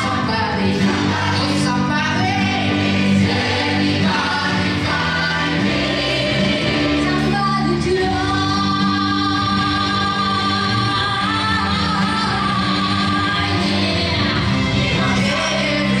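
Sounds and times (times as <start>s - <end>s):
woman singing into microphone: 0.0s - 2.8s, 3.9s - 16.0s
gospel choir singing: 0.0s - 16.0s.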